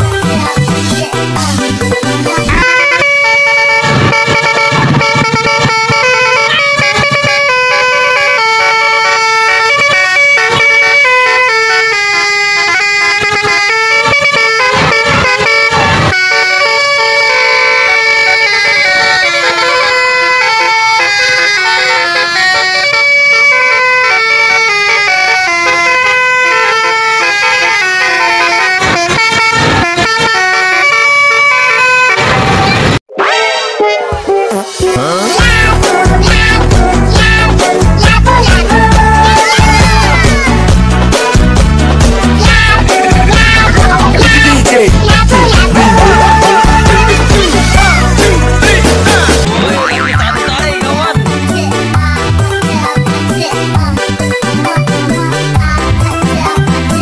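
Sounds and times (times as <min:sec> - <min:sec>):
multi-tone bus horn tune: 0:00.0 - 0:57.0.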